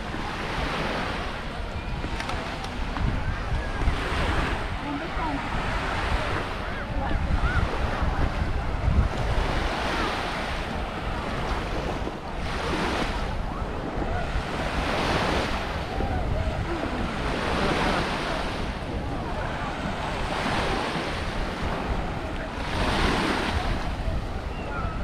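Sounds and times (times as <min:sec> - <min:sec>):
small waves breaking on sand: 0:00.0 - 0:25.0
wind rumbling on microphone: 0:00.0 - 0:25.0.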